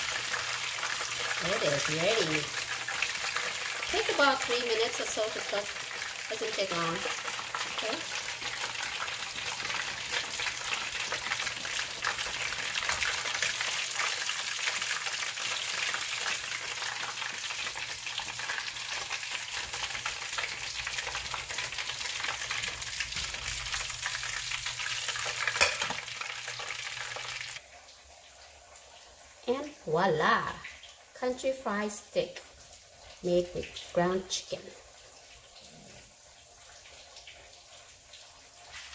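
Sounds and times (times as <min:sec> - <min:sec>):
hot oil sizzling and crackling: 0:00.0 - 0:38.9.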